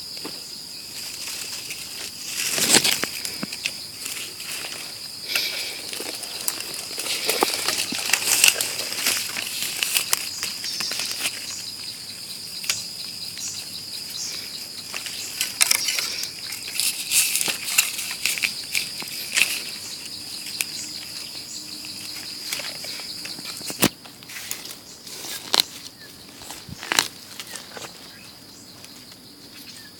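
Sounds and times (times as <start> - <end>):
dry leaves and twigs crackling: 0.0 - 29.9
high-pitched insect drone: 0.0 - 29.9.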